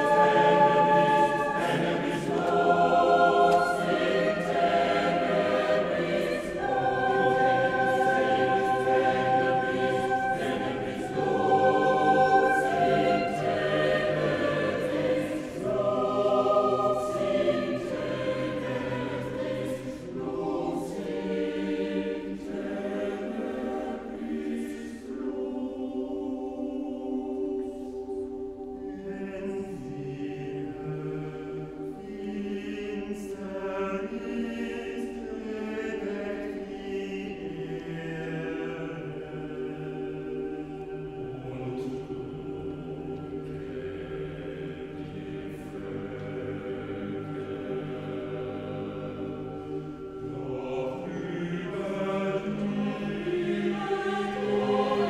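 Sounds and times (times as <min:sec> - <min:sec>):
choir singing sustained chords: 0:00.0 - 0:55.0.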